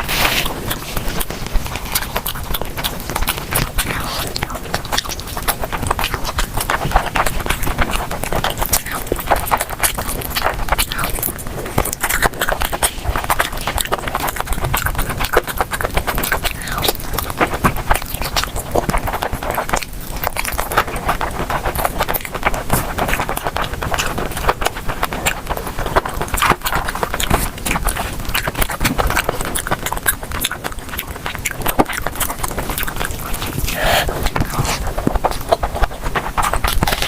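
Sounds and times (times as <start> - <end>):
chewing and crunching: 0.0 - 37.0
mouth clicks: 0.0 - 37.0.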